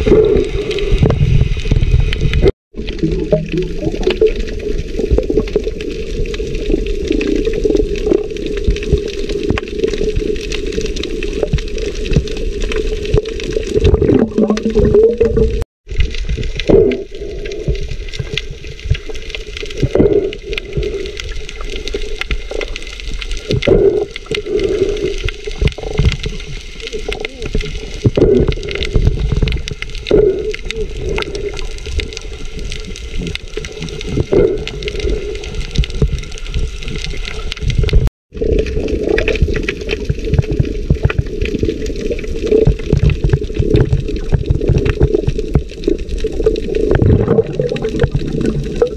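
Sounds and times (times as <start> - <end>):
underwater sloshing and gurgling: 0.0 - 48.9.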